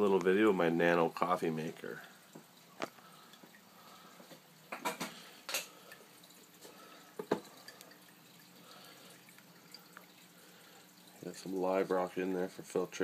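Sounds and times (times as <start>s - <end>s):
faint steady hum: 0.0s - 13.0s
water dripping and trickling: 0.0s - 13.0s.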